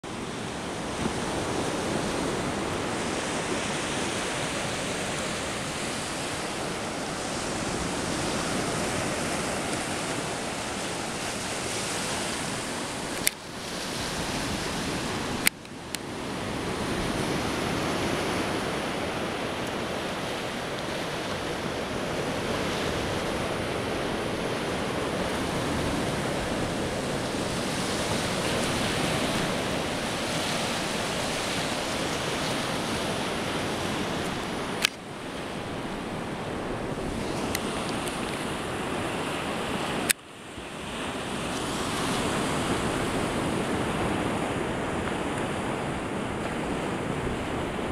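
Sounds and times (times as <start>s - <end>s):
waves washing on sandy beach: 0.0s - 47.9s
wind on microphone: 0.0s - 47.9s.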